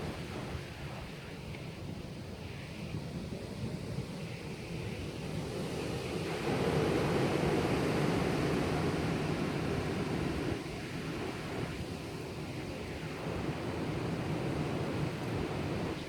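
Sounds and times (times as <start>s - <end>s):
high wind blowing: 0.0s - 16.0s.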